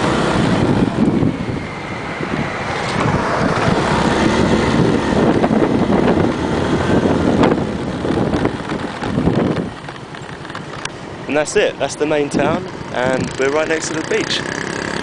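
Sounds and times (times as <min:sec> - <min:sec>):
wind rushing over microphone: 0:00.0 - 0:13.8
motorbike engine: 0:00.0 - 0:15.0
road noise: 0:00.0 - 0:15.0.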